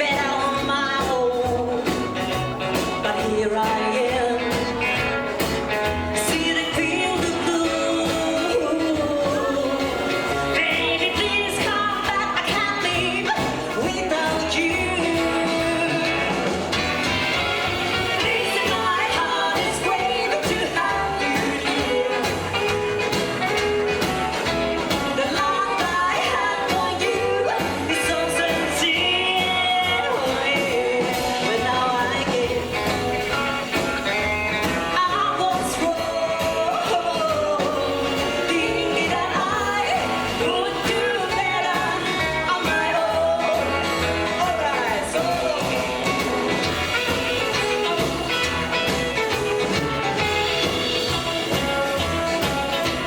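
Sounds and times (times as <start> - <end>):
live rockabilly band playing: 0.0 - 53.0.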